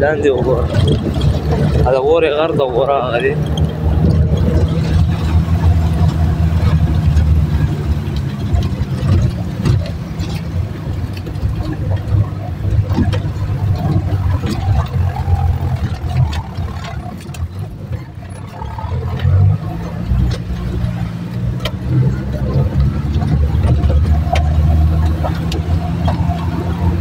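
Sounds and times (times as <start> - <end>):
car engine running under load: 0.0 - 27.0
knocks and rattles over bumps: 0.0 - 27.0.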